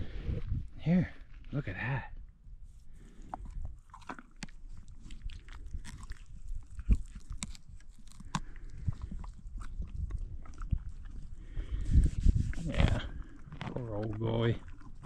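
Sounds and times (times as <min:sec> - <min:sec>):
horse chewing and crunching treats: 0:02.7 - 0:15.0.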